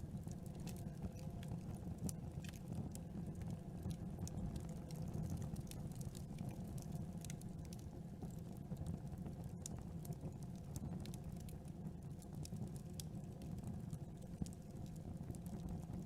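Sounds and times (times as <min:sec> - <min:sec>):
campfire crackling: 0:00.0 - 0:16.0
low rumble of burning wood: 0:00.0 - 0:16.0.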